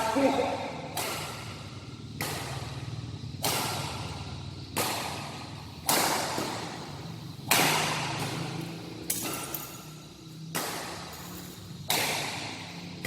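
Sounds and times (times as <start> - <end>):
rackets hitting shuttlecock: 0.0 - 13.0.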